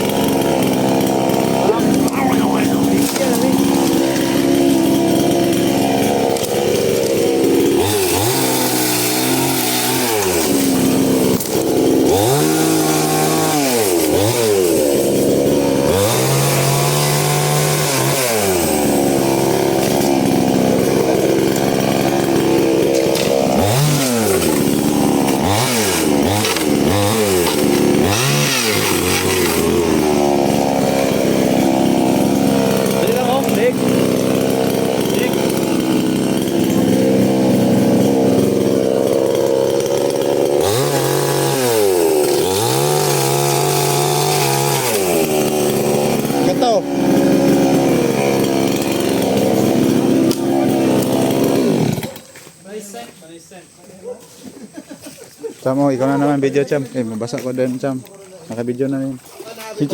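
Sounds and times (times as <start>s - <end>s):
engine revving: 0.0s - 52.2s.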